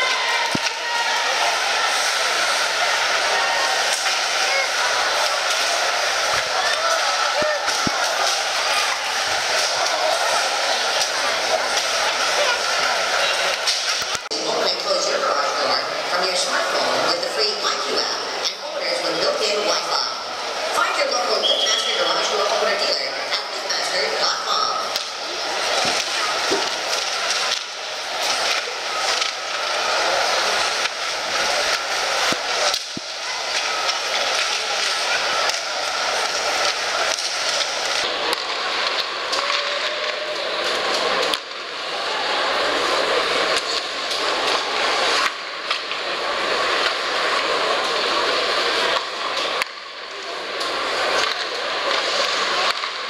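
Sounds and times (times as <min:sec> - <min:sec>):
arena crowd noise: 0:00.0 - 0:53.0.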